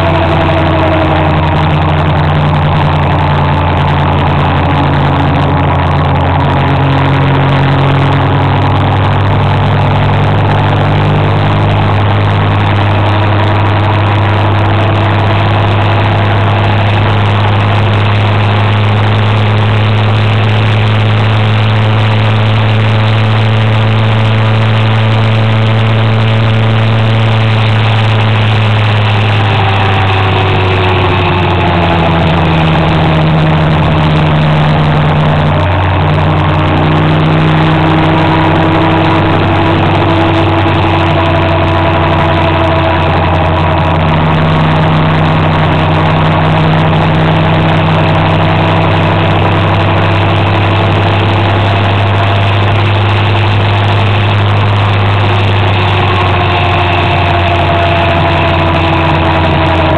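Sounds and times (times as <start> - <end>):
motor scooter engine running: 0.0 - 59.9
wind and road noise: 0.0 - 59.9.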